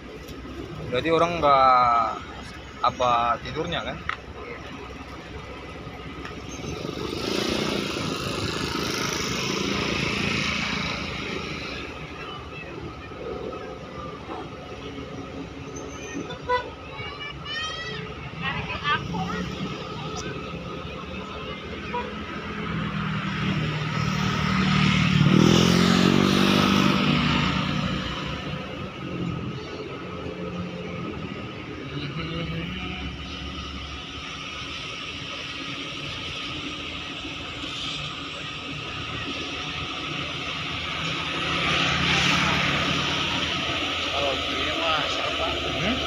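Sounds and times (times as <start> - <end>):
engine running: 0.0 - 46.0.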